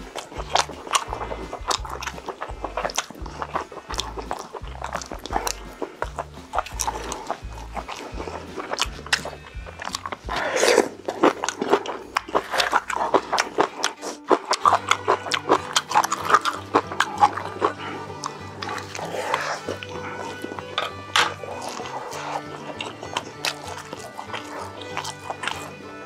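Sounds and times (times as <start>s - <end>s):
person chewing and slurping: 0.0s - 26.0s.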